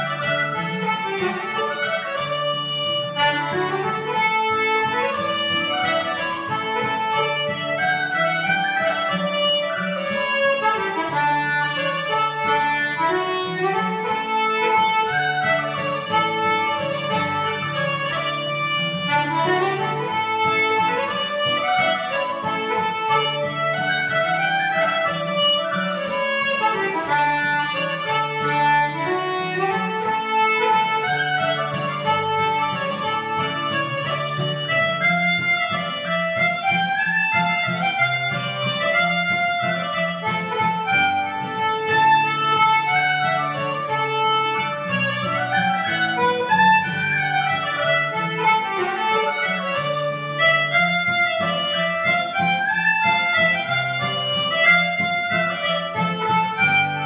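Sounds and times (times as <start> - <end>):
accordion: 0.0 - 57.0
strummed acoustic guitar: 0.0 - 57.0
uilleann pipes melody: 0.0 - 57.0.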